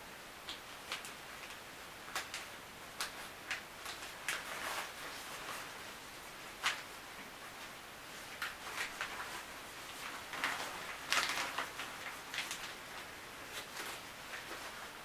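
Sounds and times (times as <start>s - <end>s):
curtain fabric rustling: 0.5s - 15.0s.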